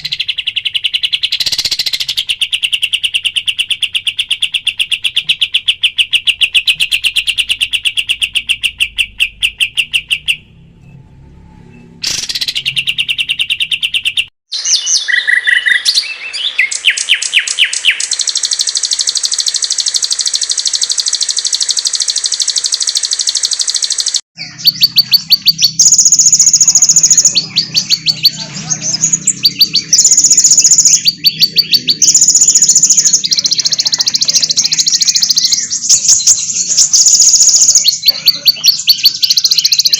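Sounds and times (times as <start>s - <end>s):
high bird chatter: 0.0s - 10.5s, 12.0s - 39.9s
songbirds trilling: 0.0s - 10.6s, 12.0s - 39.9s.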